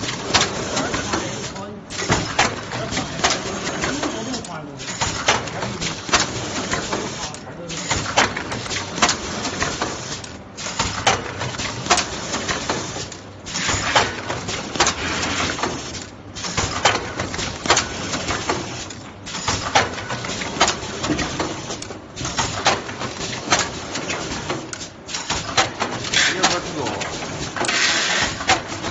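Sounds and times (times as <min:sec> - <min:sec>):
machinery clattering: 0:00.0 - 0:28.9
sharp mechanical clicks and knocks: 0:00.0 - 0:28.9.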